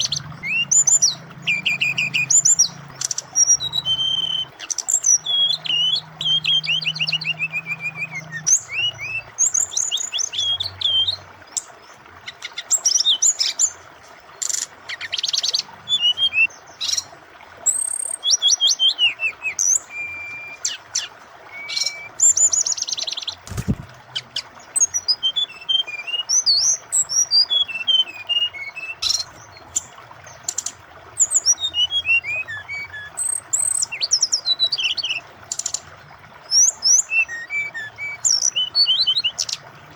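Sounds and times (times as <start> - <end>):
bird singing chirps and trills: 0.0 - 39.9
flowing water rushing: 0.0 - 39.9.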